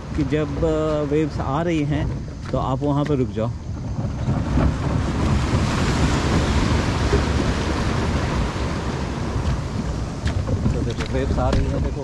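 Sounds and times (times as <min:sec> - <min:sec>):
small sea waves: 0:00.0 - 0:12.0
wind buffeting microphone: 0:00.0 - 0:12.0.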